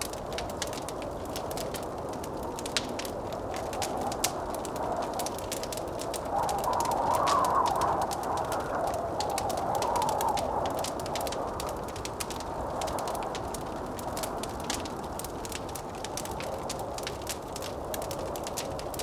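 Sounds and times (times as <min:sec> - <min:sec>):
wind howling and whistling: 0:00.0 - 0:19.0
wood fire crackling: 0:00.0 - 0:19.0.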